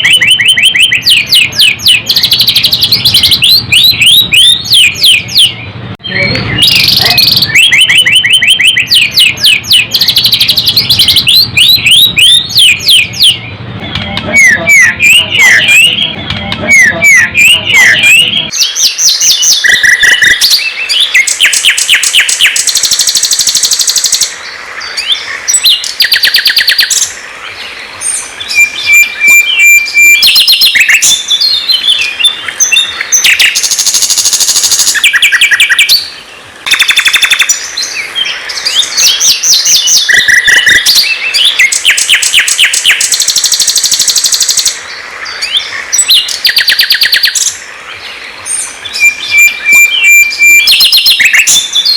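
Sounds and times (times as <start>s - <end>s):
songbird singing trills and whistles: 0.0s - 51.9s.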